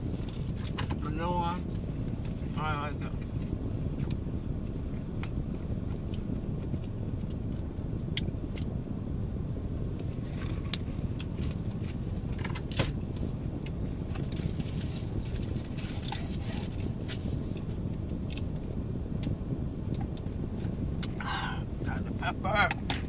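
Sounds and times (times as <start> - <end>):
low rumble inside car: 0.0 - 23.0.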